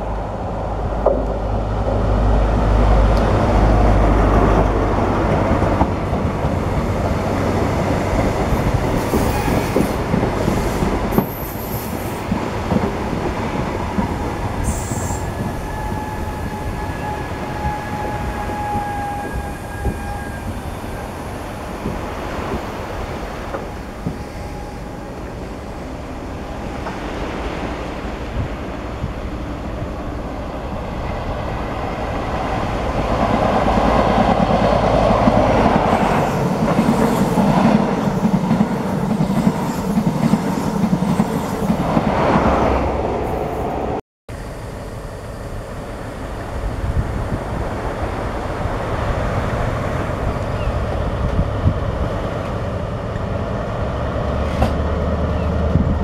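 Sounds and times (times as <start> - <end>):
high speed train running by: 0.0 - 56.0
passenger train passing: 0.0 - 56.0.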